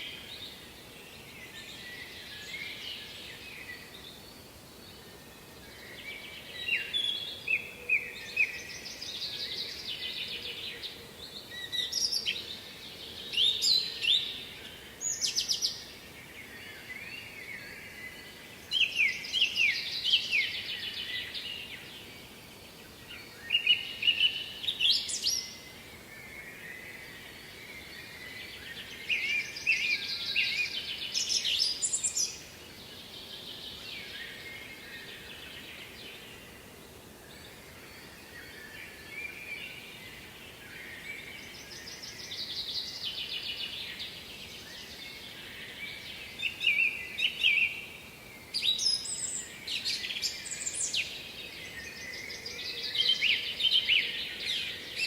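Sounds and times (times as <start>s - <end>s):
songbird singing trills: 0.0s - 22.3s, 23.0s - 36.5s, 37.3s - 55.0s.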